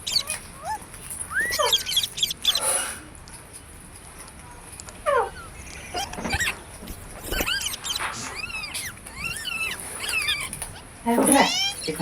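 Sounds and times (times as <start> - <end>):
parrots squawking and screeching: 0.0 - 3.1, 5.0 - 12.0.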